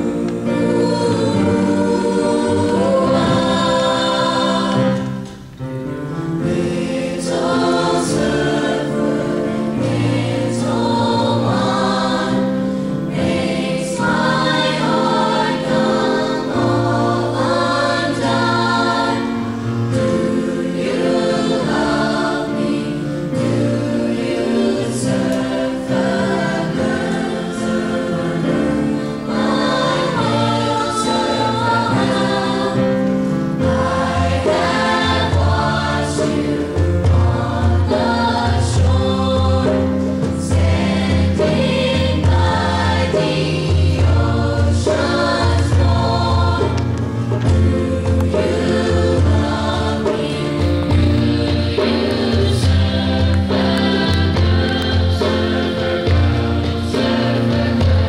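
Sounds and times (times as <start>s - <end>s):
youth choir singing pop ballad: 0.0s - 58.0s.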